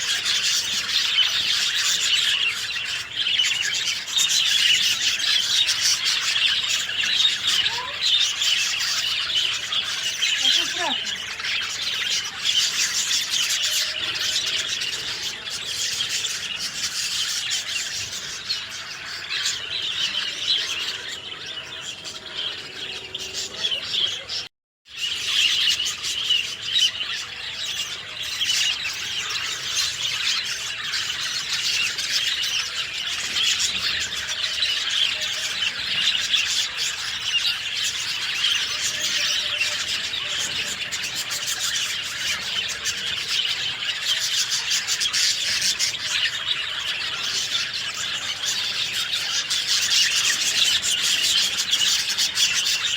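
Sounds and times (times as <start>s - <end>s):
small birds chirping and singing: 0.0s - 52.9s.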